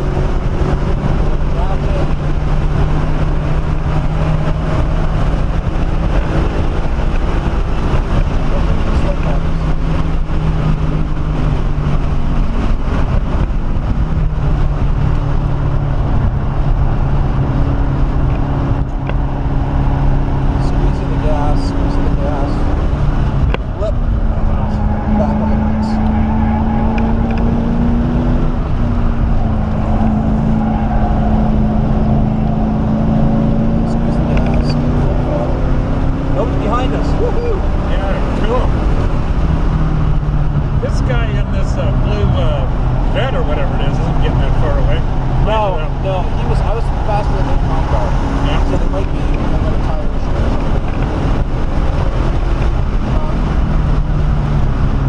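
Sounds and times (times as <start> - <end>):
car engine running hard: 0.0 - 55.0
road noise: 0.0 - 55.0
wind noise: 0.0 - 55.0.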